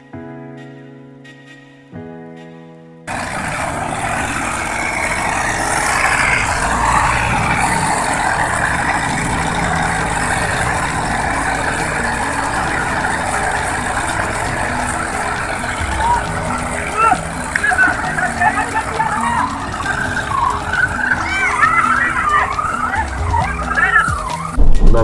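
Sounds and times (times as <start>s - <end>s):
continuous rushing noise: 3.1s - 25.0s
tractor engine under heavy load: 3.1s - 25.0s.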